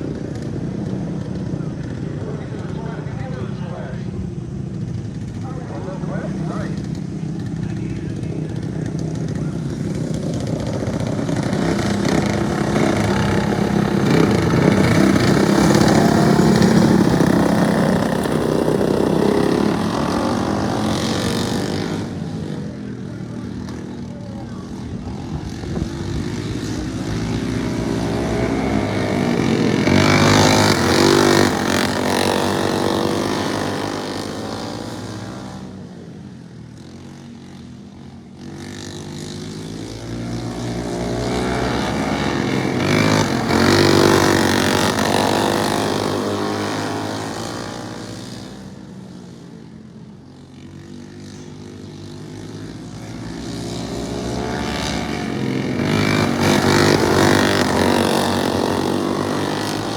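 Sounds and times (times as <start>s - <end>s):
racing lawnmower engines passing: 0.0s - 59.9s.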